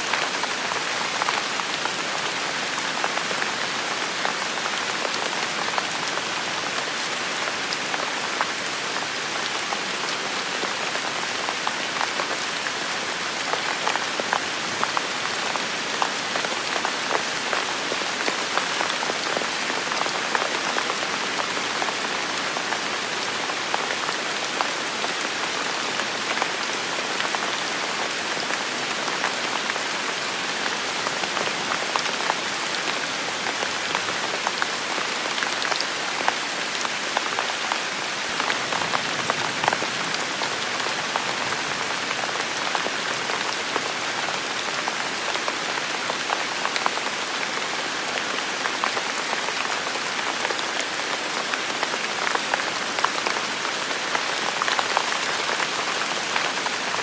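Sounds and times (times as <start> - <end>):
heavy rain in a forest: 0.0 - 57.0.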